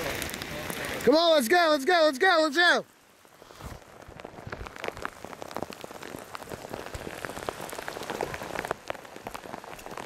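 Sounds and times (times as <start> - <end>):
rain drops on hard surface: 0.0 - 10.0.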